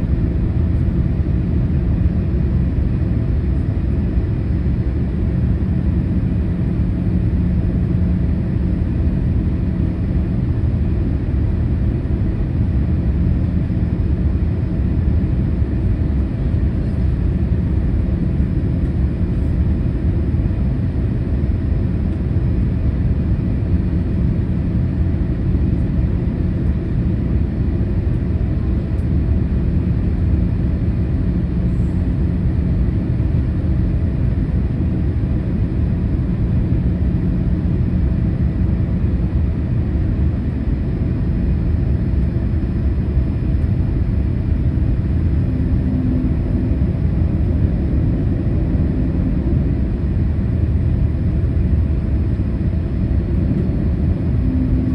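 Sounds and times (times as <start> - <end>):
airliner cabin engine rumble: 0.0 - 54.9
faint steady hum: 0.0 - 54.9.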